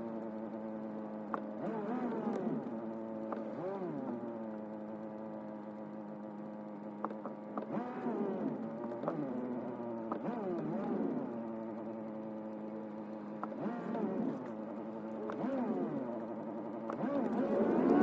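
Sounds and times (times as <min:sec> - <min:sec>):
car interior hum: 0:00.0 - 0:18.0
light clicks: 0:00.0 - 0:18.0.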